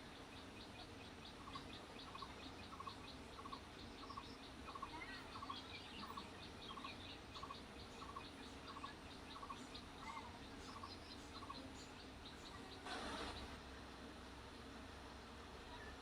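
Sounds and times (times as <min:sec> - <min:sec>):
faint regular chirping: 0:00.1 - 0:13.6.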